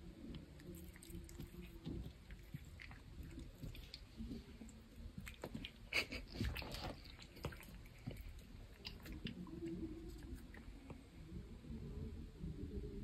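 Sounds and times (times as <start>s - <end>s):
cat chewing: 0.3s - 11.0s.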